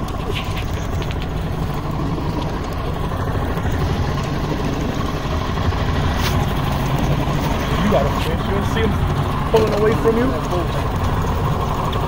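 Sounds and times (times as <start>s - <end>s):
outboard motors idling: 0.0s - 12.0s.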